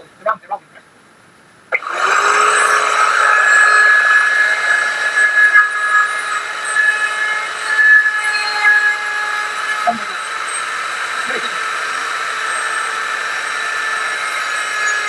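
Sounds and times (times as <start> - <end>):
power tool whining on wood: 1.7 - 15.0.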